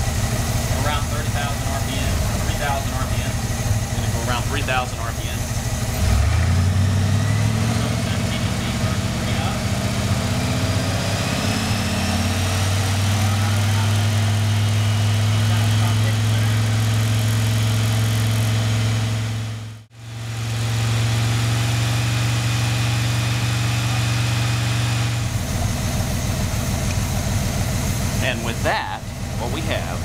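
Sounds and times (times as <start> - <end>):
car engine running steadily: 0.0 - 30.0.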